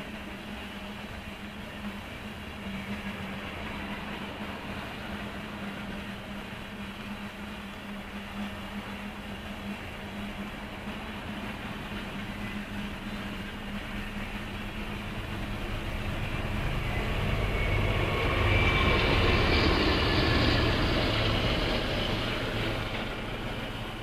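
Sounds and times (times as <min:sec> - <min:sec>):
faint high whine: 0:00.0 - 0:24.0
freight train rolling past: 0:00.0 - 0:24.0.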